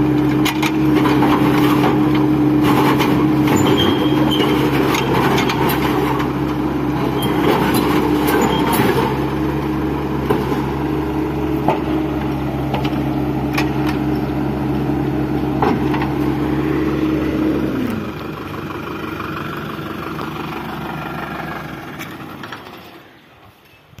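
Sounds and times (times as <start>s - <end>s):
excavator diesel engine running: 0.0s - 23.5s
quieter engine hum: 0.0s - 24.0s.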